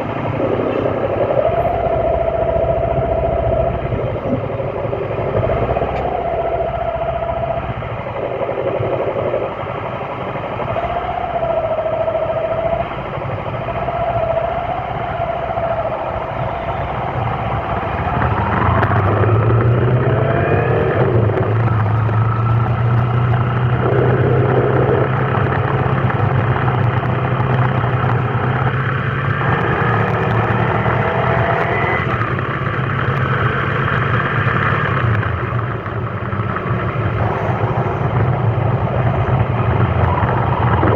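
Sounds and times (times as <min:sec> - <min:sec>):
low engine drone: 0:00.0 - 0:40.9
vehicle engines revving: 0:00.0 - 0:40.9.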